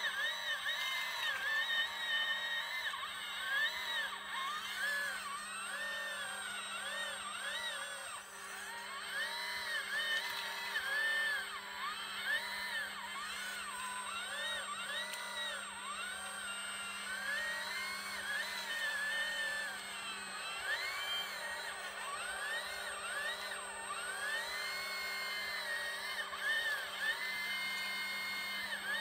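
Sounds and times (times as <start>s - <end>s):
electric hydraulic pump whining: 0.0s - 29.0s.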